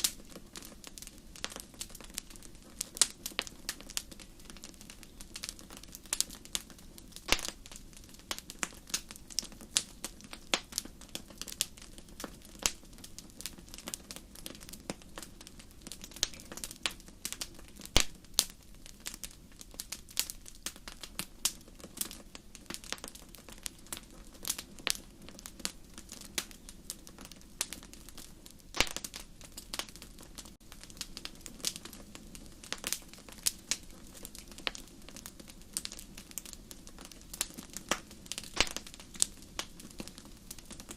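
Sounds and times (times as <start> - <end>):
flames rumbling: 0.0 - 40.9
wood fire crackling: 0.0 - 40.9.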